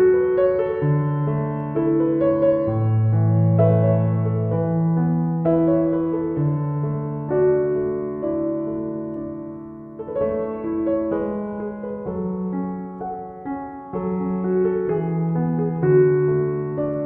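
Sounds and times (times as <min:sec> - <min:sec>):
gentle piano chords: 0:00.0 - 0:17.0.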